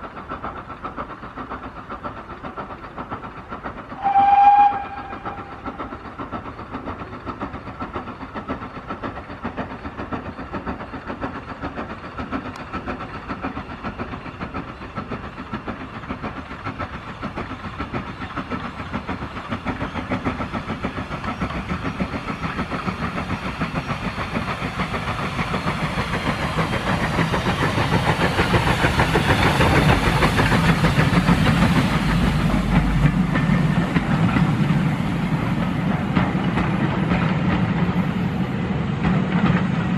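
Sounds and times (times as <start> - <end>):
steam hissing: 0.0 - 39.9
steam locomotive exhaust beats: 0.0 - 39.9.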